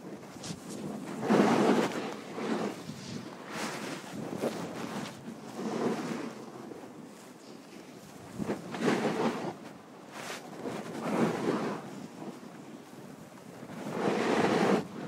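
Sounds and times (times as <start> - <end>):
snowboard scraping over snow: 0.0 - 13.0, 13.6 - 15.0
wind on microphone: 0.0 - 15.0.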